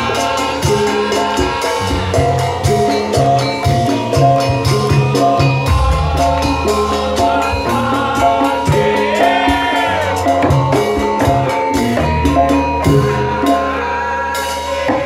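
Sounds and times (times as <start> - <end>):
drum and percussion rhythm: 0.0 - 15.0
sustained pitched instrument tones: 0.0 - 15.0.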